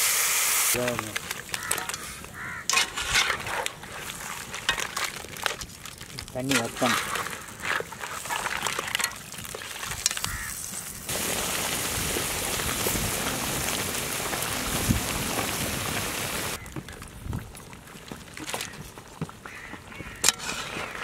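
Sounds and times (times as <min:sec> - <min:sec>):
gravy sizzling and bubbling: 0:00.0 - 0:21.0.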